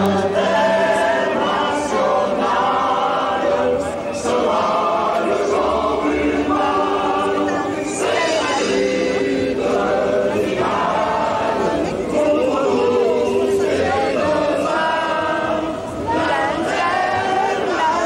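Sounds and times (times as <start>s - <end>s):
crowd singing in unison: 0.0s - 18.0s.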